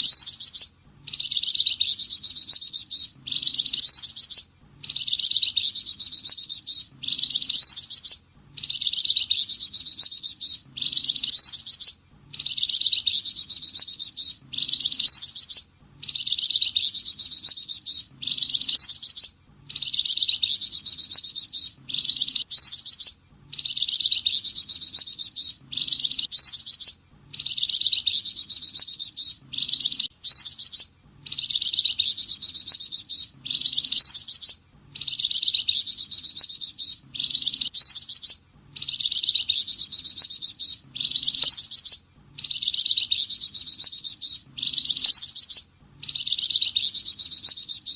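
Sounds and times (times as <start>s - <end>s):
bird singing trilled phrases: 0.0s - 47.9s.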